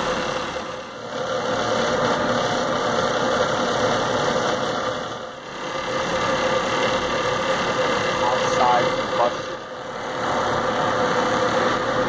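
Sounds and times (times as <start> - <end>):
boiler burner humming: 0.0 - 12.0.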